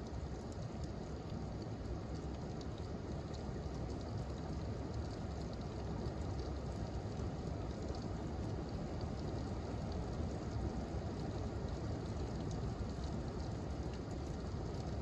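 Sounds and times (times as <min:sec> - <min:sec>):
small raindrop ticks: 0:00.0 - 0:15.0
steady rain falling: 0:00.0 - 0:15.0.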